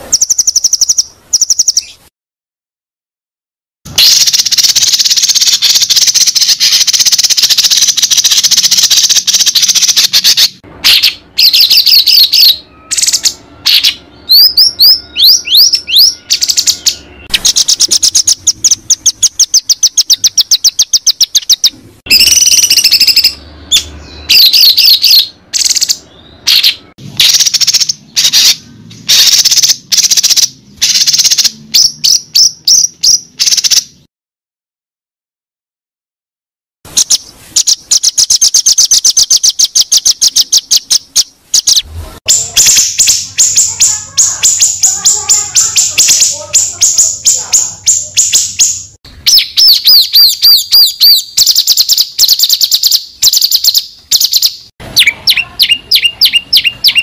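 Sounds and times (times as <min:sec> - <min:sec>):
songbird whistled song: 0:00.0 - 0:02.1, 0:03.9 - 0:34.1, 0:36.9 - 0:57.0.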